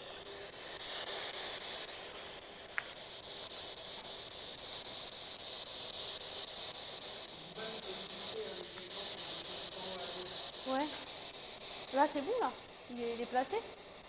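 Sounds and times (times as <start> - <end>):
recording hiss: 0.0 - 14.0.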